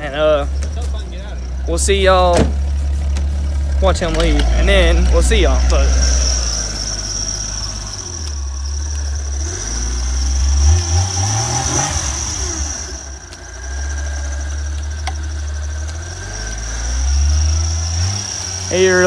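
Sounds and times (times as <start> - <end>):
high-pitched squeal: 0.0 - 19.0
low engine rumble: 0.0 - 19.0
vehicle engine revving: 0.0 - 19.0.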